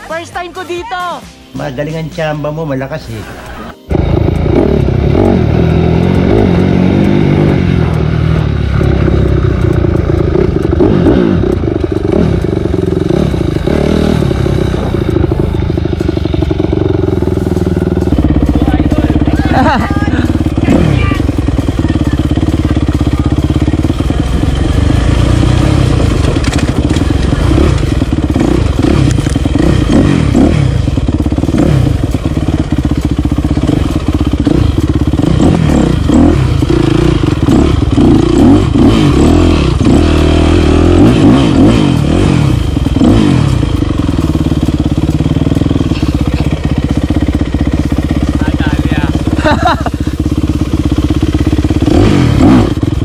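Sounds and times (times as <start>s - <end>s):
dirt bike engine revving: 3.3s - 53.0s.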